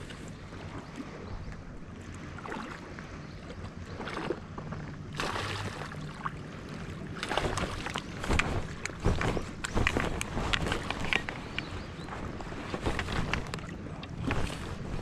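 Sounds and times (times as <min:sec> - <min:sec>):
soft water noise: 0:00.0 - 0:15.0
wind rumbling on microphone: 0:00.0 - 0:15.0.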